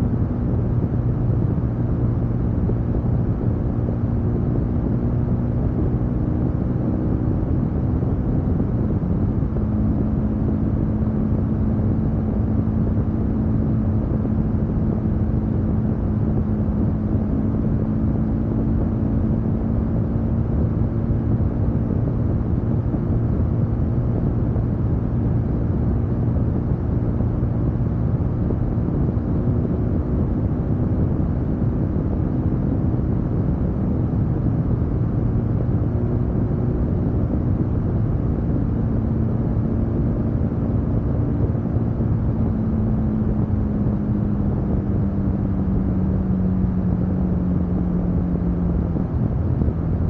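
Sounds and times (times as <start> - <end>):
motorcycle engine cruising: 0.0 - 50.0.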